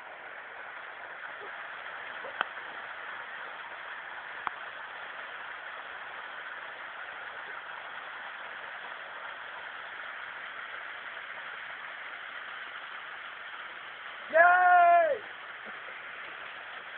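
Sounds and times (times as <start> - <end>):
stream flowing over rocks: 0.0 - 16.9.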